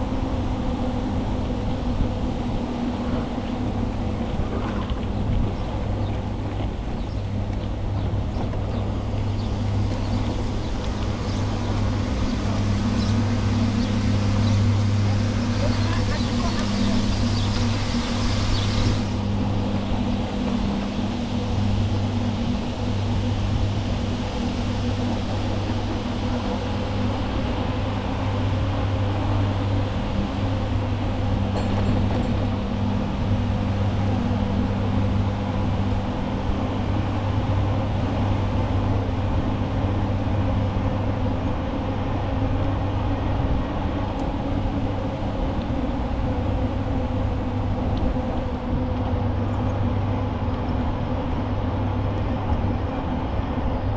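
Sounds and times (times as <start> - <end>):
constant rushing noise: 0.0 - 53.9
low mechanical hum: 0.0 - 53.9.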